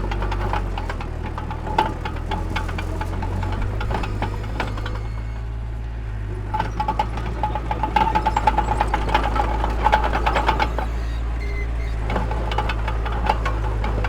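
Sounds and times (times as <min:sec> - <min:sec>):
squealing metallic clanks: 0:00.0 - 0:05.7, 0:06.3 - 0:14.0
diesel machinery rumbling: 0:00.0 - 0:14.0.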